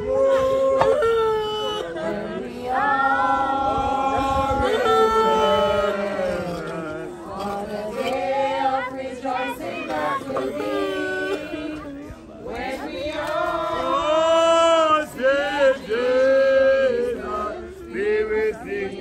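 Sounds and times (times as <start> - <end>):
group singing a hymn: 0.8 - 19.0.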